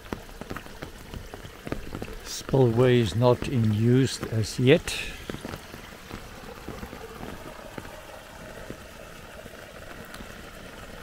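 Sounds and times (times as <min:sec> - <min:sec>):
water flowing through culvert: 0:00.0 - 0:11.0.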